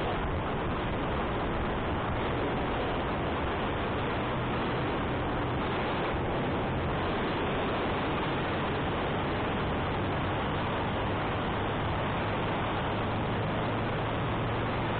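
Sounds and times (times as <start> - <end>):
motorcycle engine humming: 0.0 - 14.9
wind rushing over microphone: 0.0 - 14.9.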